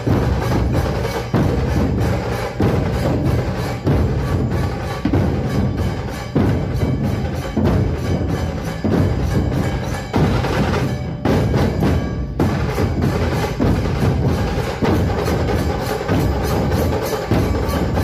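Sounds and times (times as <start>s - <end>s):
percussion-driven music: 0.0s - 18.0s.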